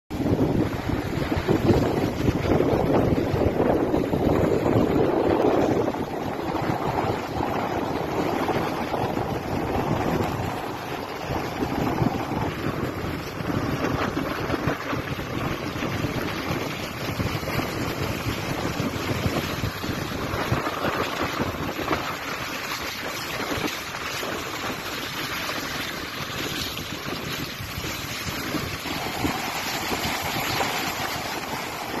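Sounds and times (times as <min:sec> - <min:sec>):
sea waves washing on beach: 0:00.1 - 0:32.0
wind buffeting microphone: 0:00.1 - 0:32.0.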